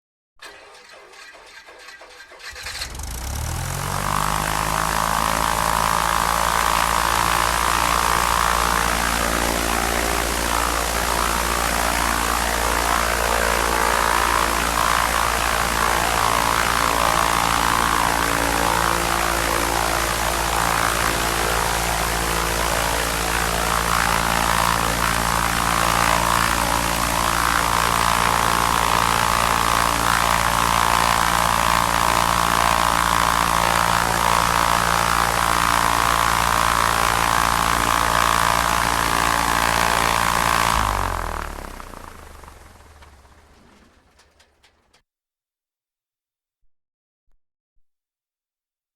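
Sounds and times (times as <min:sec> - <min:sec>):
airplane engine starting and droning: 0:00.4 - 0:45.0.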